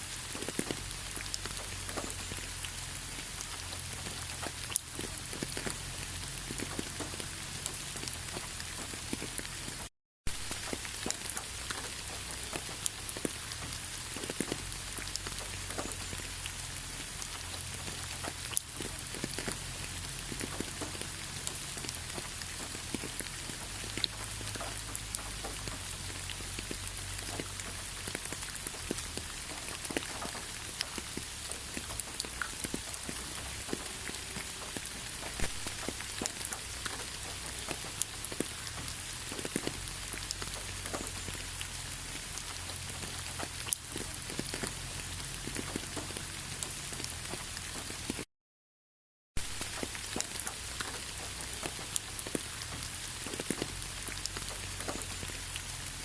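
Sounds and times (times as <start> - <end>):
rain hiss: 0.0 - 48.2, 49.4 - 56.0
raindrops pattering: 0.0 - 48.3, 49.4 - 56.0.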